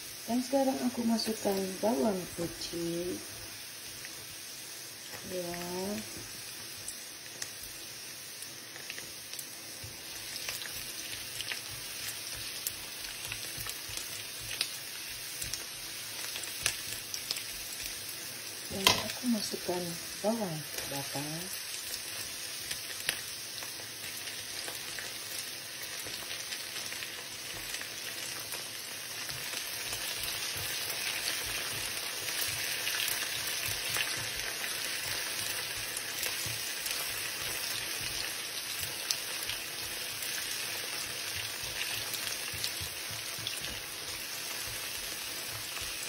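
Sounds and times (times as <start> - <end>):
vegetables sizzling in a wok: 0.0 - 46.0.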